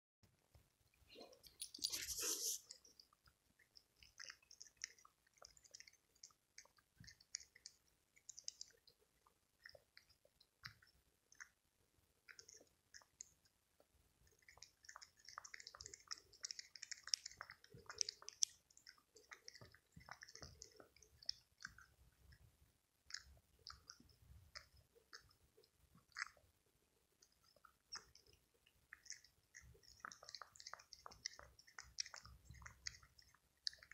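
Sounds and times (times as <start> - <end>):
cat lapping milk: 1.2 - 33.9.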